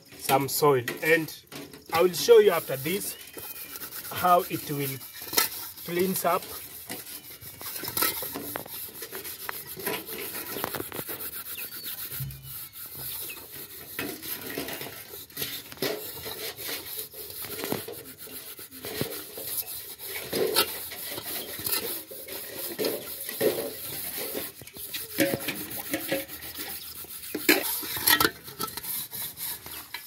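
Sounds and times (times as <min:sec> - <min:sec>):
metal pot scrubbed with soil: 0:00.0 - 0:30.0.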